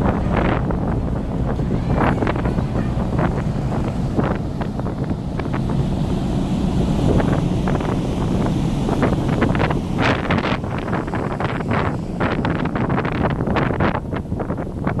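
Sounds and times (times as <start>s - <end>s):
steady low rumble: 0.0s - 15.0s
wind buffeting microphone: 0.0s - 15.0s.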